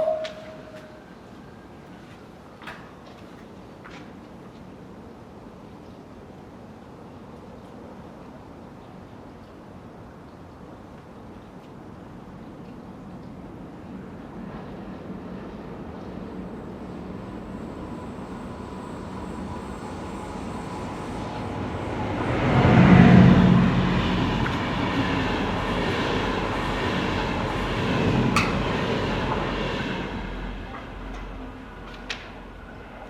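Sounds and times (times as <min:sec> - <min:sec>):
rail vehicle rumbling past: 0:00.0 - 0:06.8, 0:11.8 - 0:33.0.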